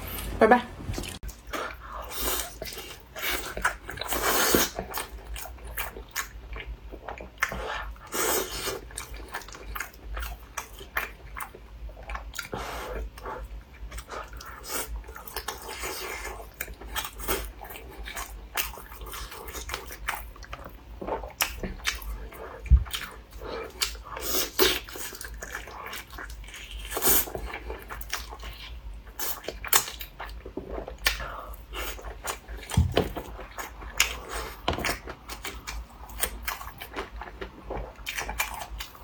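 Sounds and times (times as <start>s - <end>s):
chewing and biting: 0.9s - 39.0s.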